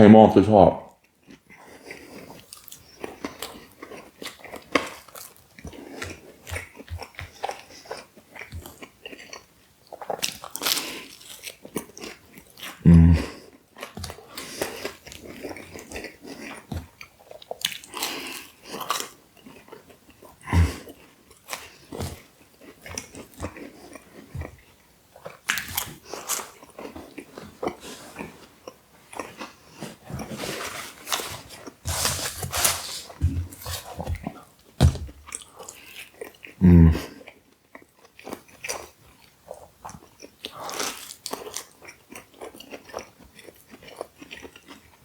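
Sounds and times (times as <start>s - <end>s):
person chewing pizza: 0.8s - 45.0s.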